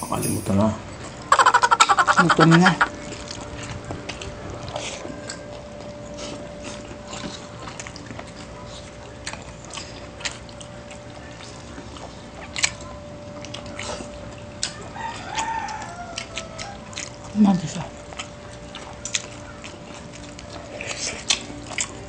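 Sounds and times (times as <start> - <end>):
faint steady hum: 0.0 - 22.0
wet chewing and lip smacks: 1.2 - 22.0.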